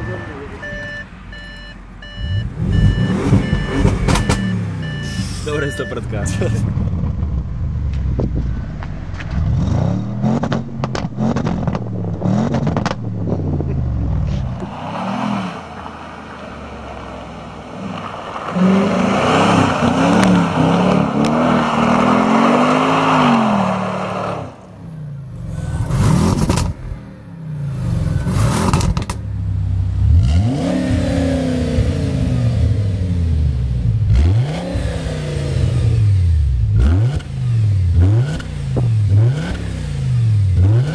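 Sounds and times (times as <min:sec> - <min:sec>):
car engine revving: 0:02.1 - 0:40.9.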